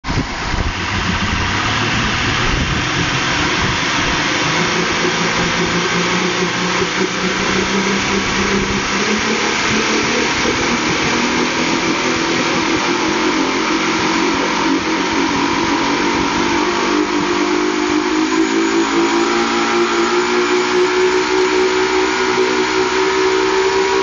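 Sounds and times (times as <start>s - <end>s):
outboard engines running: 0.1s - 24.0s.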